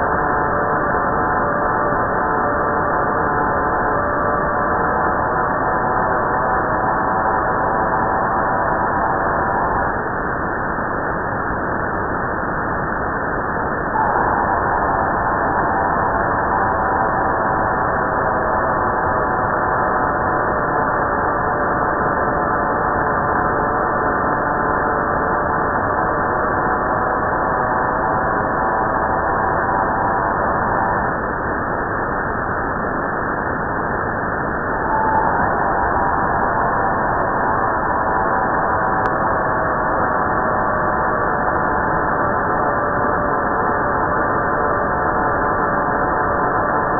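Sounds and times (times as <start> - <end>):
steady radio tones: 0.0 - 46.9.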